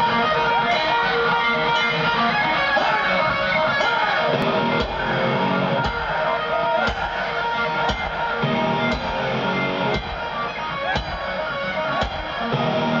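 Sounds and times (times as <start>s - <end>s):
heavy metal electric guitar: 0.0s - 13.0s.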